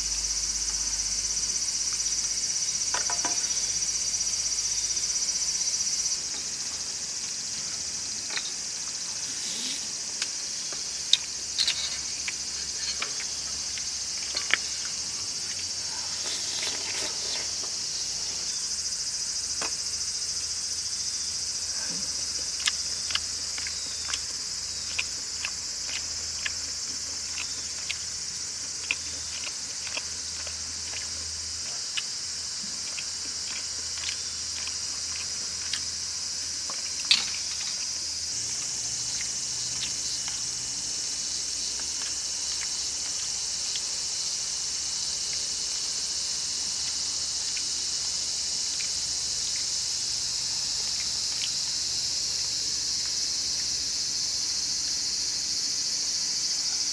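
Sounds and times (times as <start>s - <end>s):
insects chirring: 0.0s - 56.9s.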